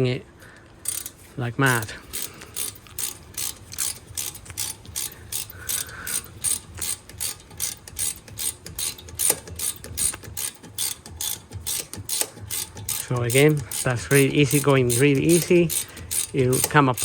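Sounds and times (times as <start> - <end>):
hand ratchet clicking: 0.8 - 17.0.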